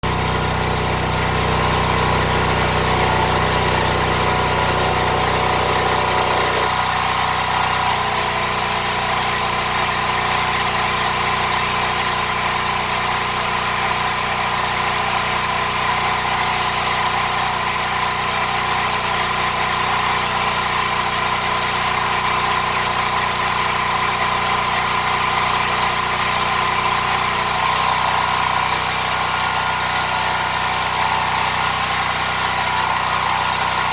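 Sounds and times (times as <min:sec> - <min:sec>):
welding machine hum and hiss: 0:00.0 - 0:33.9.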